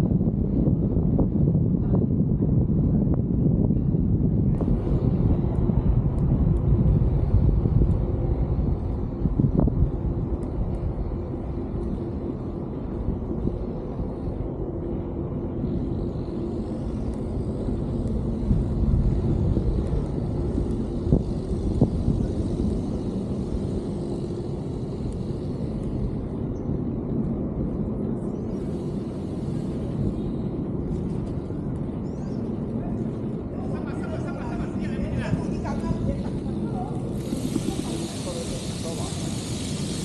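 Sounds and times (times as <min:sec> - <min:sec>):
faint hum: 0:00.0 - 0:40.0
low outdoor rumble: 0:00.0 - 0:40.0.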